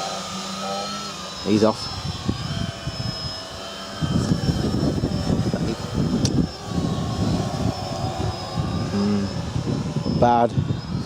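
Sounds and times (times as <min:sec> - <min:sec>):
model aircraft motor whine: 0:00.0 - 0:11.0
low rumbling noise: 0:00.8 - 0:11.0.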